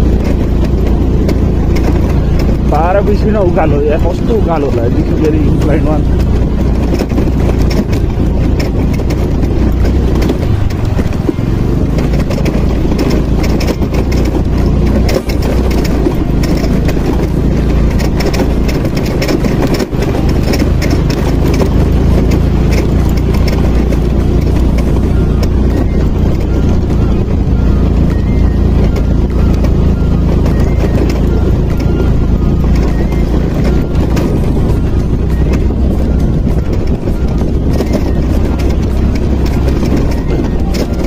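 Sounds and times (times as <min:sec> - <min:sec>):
knocks and rattles: 0:00.0 - 0:41.0
vehicle engine under load: 0:00.0 - 0:41.0.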